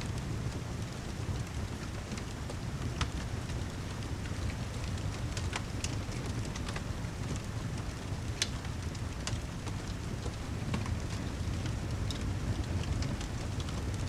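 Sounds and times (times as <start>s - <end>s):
fire crackling and popping: 0.0s - 14.0s
steady rain: 0.0s - 14.0s.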